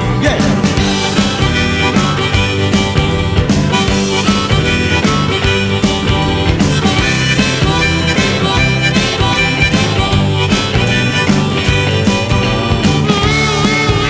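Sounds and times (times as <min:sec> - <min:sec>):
guitar: 0:00.0 - 0:14.0
harmonica: 0:00.0 - 0:14.0
rock music: 0:00.0 - 0:14.0
steady drum beat: 0:00.0 - 0:14.0.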